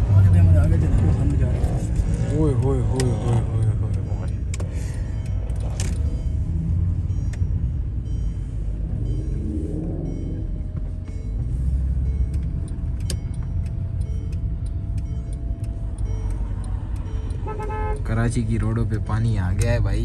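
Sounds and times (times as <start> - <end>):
car rumble on wet road: 0.0 - 20.0.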